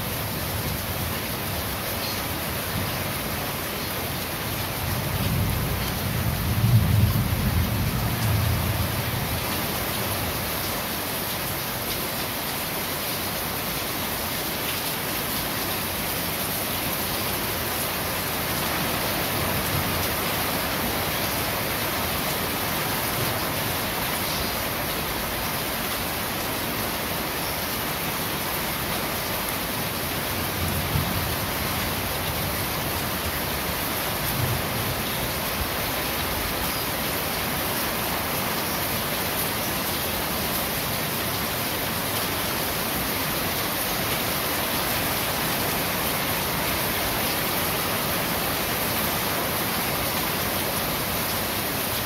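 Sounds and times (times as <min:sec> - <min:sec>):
rain on a metal roof: 0:00.0 - 0:52.0.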